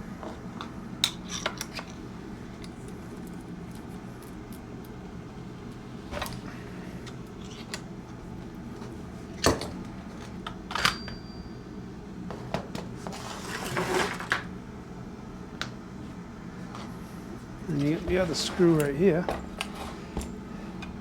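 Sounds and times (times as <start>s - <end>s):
steady low hum: 0.0s - 13.5s, 14.5s - 21.0s.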